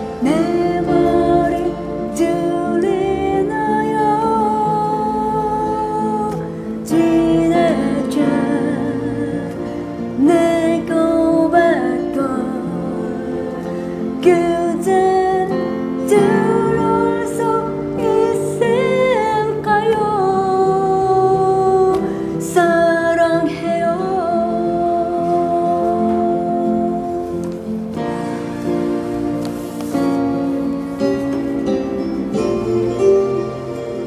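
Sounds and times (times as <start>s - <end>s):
woman singing a ballad: 0.0s - 28.3s
electronic keyboard chords: 0.0s - 34.0s.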